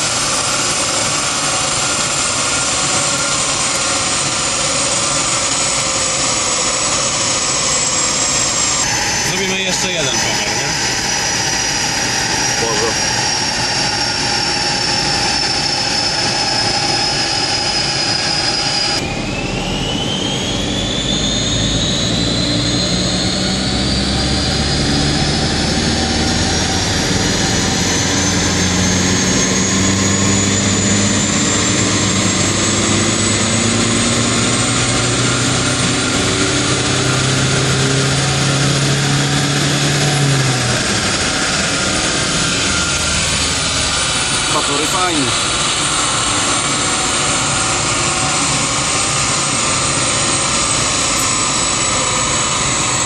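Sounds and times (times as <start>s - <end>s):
car coasting whine on rollers: 0.0s - 53.0s
diesel engine pulling under load: 0.0s - 53.0s
high turbo whine: 0.0s - 53.0s.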